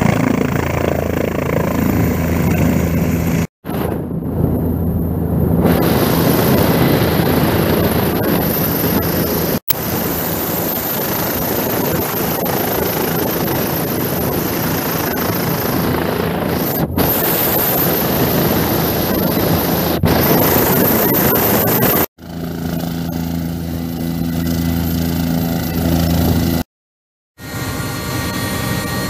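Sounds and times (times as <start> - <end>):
helicopter turbine and rotor: 0.0 - 26.7, 27.4 - 29.0.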